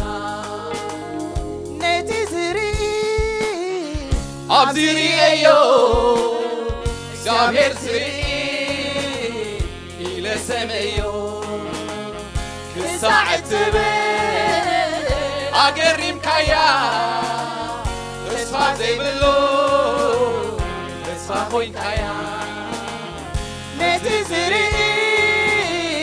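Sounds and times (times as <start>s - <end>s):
choir singing gospel song: 0.0s - 26.0s
held bass notes: 4.1s - 26.0s.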